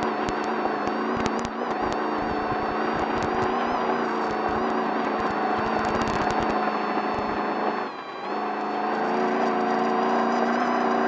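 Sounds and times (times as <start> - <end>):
road and wind noise: 0.0 - 11.0
truck engine at steady revs: 0.0 - 11.0.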